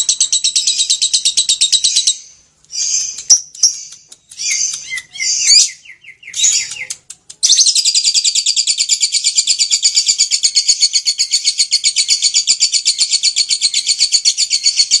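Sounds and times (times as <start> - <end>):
lovebird chattering trill: 0.0 - 15.0.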